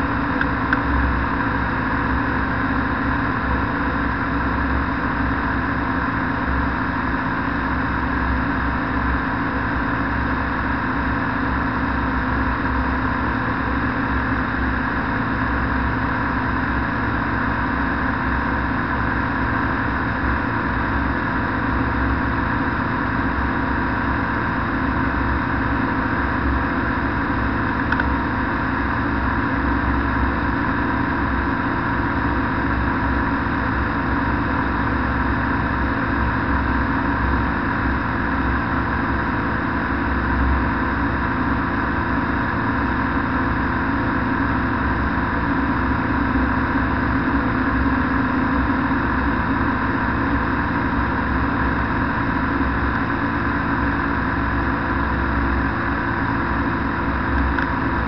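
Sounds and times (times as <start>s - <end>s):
microlight engine and propeller drone: 0.0s - 58.0s.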